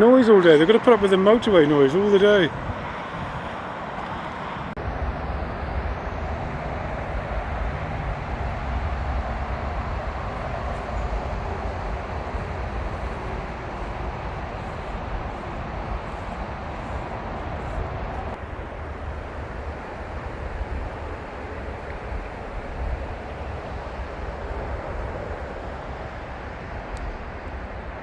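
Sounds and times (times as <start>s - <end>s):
motorway traffic rumble and hiss: 0.0s - 28.0s.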